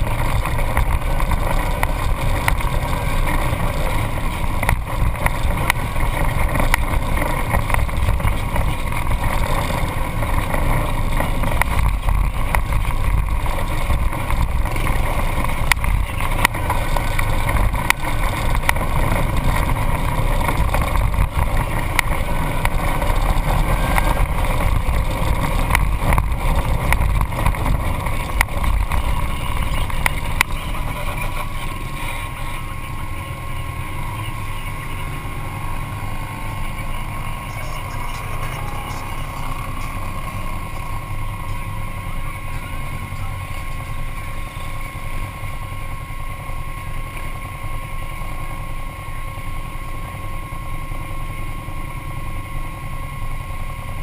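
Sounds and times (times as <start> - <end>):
off-road vehicle engine rumble: 0.0 - 54.0.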